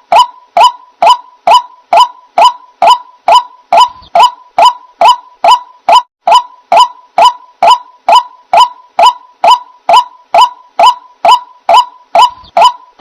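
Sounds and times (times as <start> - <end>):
waterhen honking call: 0.1 - 12.9.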